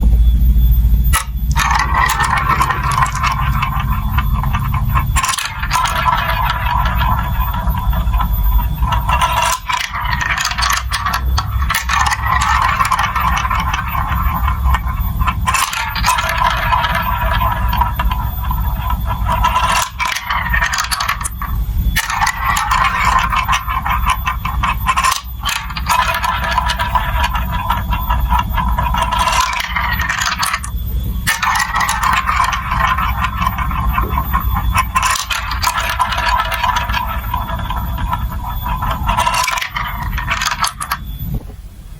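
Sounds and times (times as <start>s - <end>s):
marbles rattling down plastic run: 1.1s - 41.4s.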